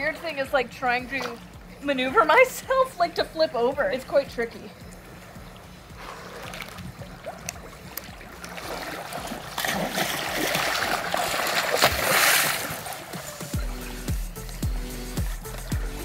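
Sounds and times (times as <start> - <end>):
pool water splashing: 0.0 - 16.0.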